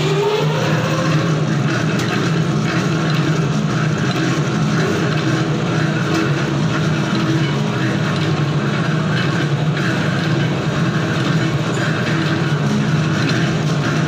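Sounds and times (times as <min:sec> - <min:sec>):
thread rolling machine humming: 0:00.0 - 0:14.0.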